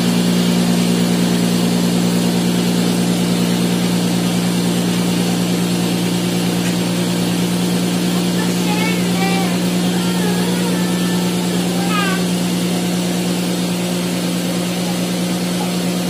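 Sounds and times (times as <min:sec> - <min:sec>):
cotton candy machine humming: 0:00.0 - 0:16.0.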